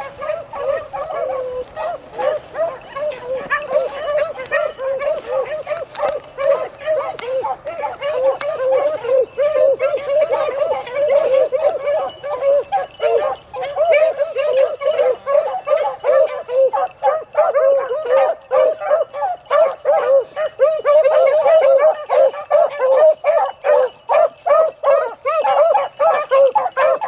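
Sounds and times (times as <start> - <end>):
beagles baying: 0.0 - 27.0.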